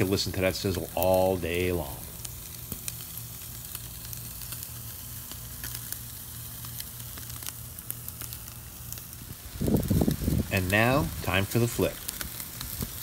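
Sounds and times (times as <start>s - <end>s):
fat popping and crackling: 0.0s - 13.0s
meat sizzling on grill: 0.0s - 13.0s.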